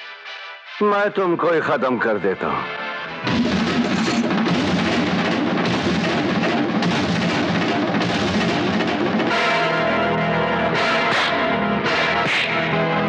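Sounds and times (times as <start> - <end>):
film background music: 0.0 - 13.0.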